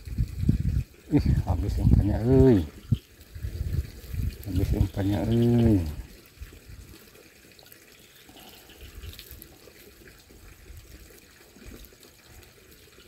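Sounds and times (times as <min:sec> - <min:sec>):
faint water trickle: 0:00.0 - 0:13.0.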